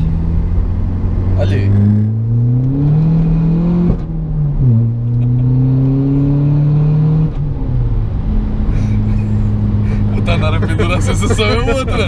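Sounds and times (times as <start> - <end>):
diesel engine accelerating: 0.0 - 12.0.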